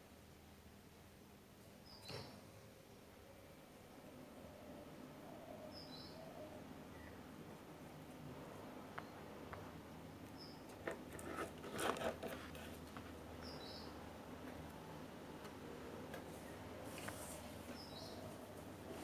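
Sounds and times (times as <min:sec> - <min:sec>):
low steady background hum: 0:00.0 - 0:19.0.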